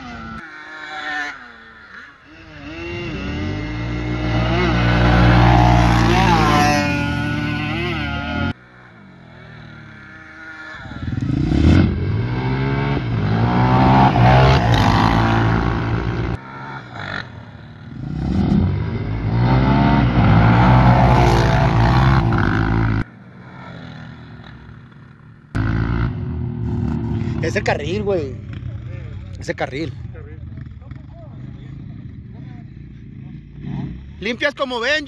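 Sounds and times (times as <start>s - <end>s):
motorcycle engines accelerating hard: 0.0s - 35.0s.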